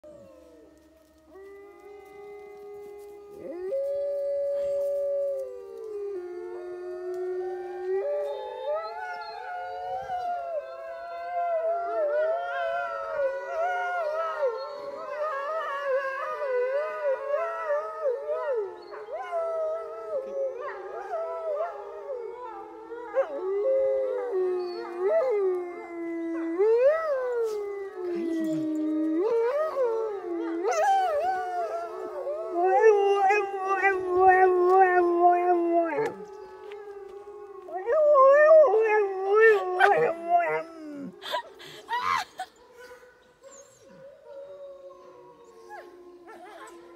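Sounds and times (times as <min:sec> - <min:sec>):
dog howling: 0:00.0 - 0:41.4, 0:43.5 - 0:46.9
wolves howling in chorus: 0:00.0 - 0:46.9.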